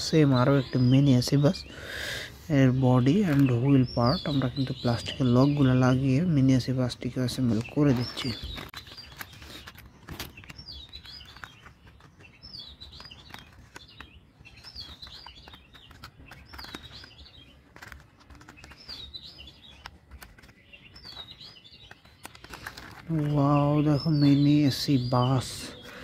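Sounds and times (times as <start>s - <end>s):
songbird chirping: 0.0s - 26.0s.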